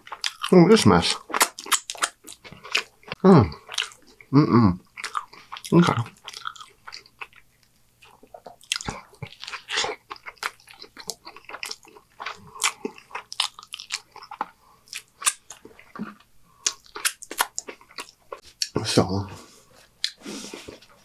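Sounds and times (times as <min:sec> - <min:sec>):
chewing with wet smacks: 0:00.0 - 0:04.3, 0:04.9 - 0:18.8.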